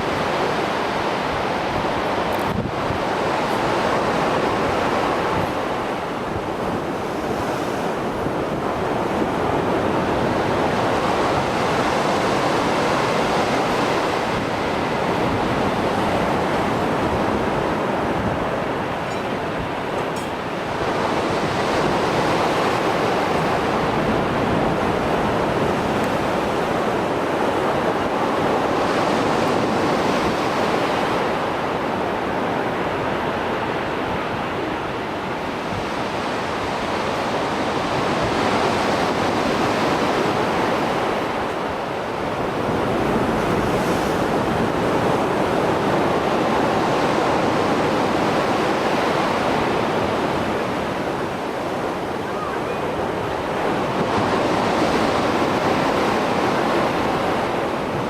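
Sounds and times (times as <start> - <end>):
waves breaking on shore: 0.0 - 58.0
wind on microphone: 0.0 - 58.0.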